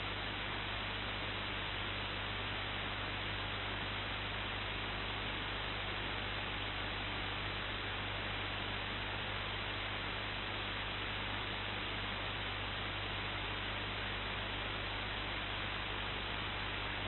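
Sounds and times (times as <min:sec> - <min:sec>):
low mains hum: 0:00.0 - 0:17.0.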